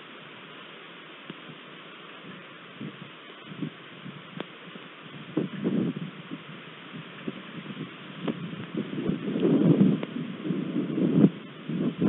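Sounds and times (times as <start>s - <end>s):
storm rain hissing: 0.0s - 12.0s.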